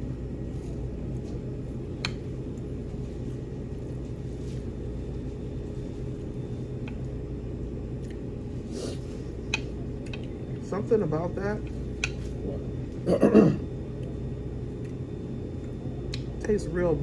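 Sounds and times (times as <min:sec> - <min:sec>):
room tone hum: 0:00.0 - 0:17.0.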